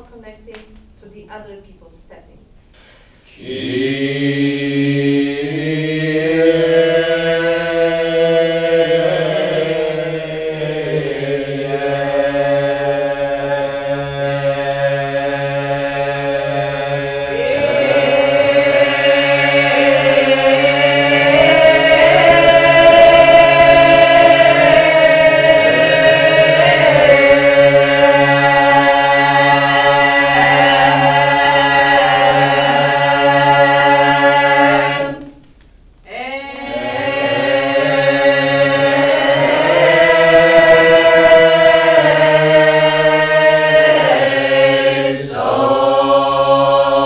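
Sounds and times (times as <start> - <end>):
low vocal drone: 3.2 - 35.4, 36.1 - 47.0
choir singing unaccompanied: 3.3 - 35.4, 36.1 - 47.0.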